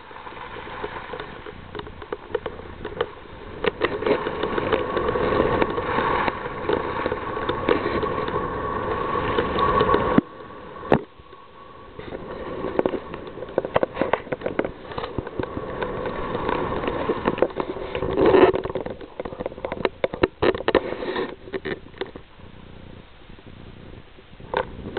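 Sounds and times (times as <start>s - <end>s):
skis scraping over snow: 0.0s - 21.9s
knocks and crackles: 0.0s - 22.3s
wind on microphone: 0.0s - 24.9s.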